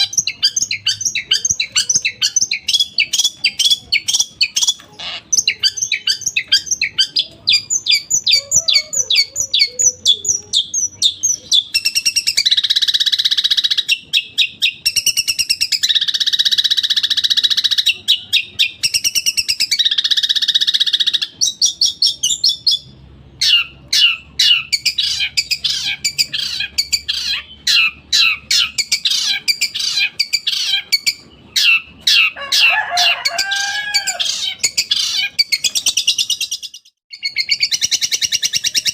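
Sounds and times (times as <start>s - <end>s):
mimicked sparrow calls: 0.0s - 32.7s, 33.4s - 38.9s
harsh buzzing bird rasps: 0.0s - 38.9s
shrike singing sharp repeated notes: 0.0s - 38.9s.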